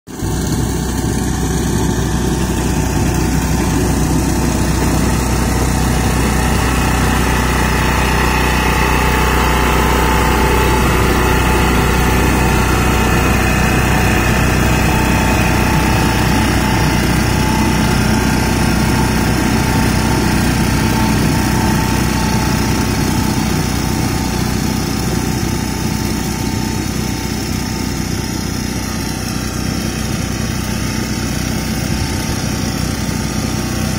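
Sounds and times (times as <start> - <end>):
reaper engine running: 0.1 - 33.9.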